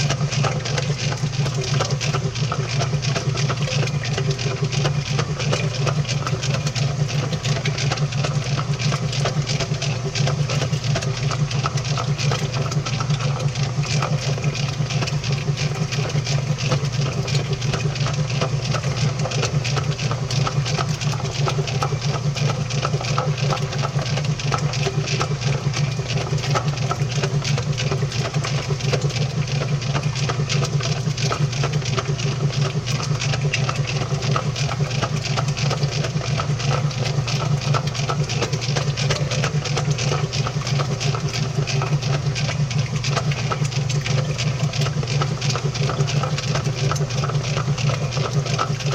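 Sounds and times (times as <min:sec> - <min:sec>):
washing machine running: 0:00.0 - 0:48.9.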